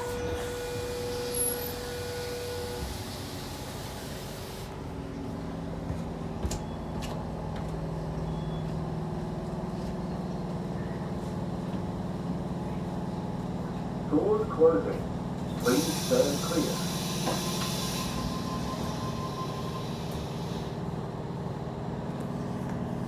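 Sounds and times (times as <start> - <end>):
train equipment low hum: 0.0 - 23.0.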